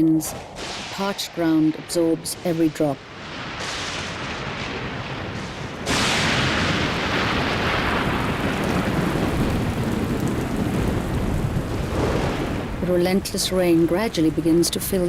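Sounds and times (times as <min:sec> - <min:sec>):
heavy rain downpour: 0:00.0 - 0:15.0
thunder rumbling: 0:00.0 - 0:15.0.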